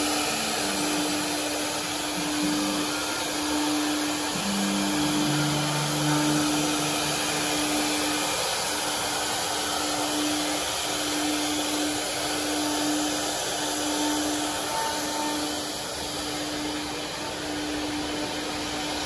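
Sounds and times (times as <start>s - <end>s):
cnc router carving wood: 0.0s - 19.0s.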